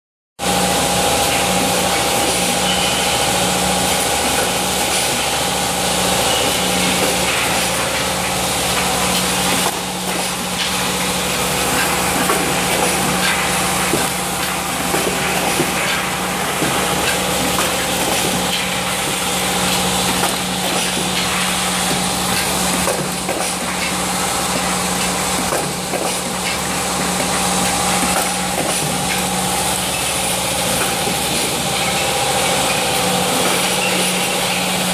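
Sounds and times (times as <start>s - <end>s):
machine hum: 0.4s - 34.9s.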